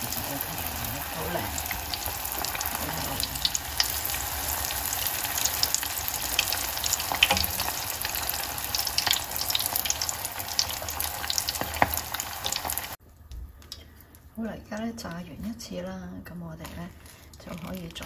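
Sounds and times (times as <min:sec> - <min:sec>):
spring rolls deep-frying in oil: 0:00.0 - 0:13.0, 0:16.5 - 0:18.0.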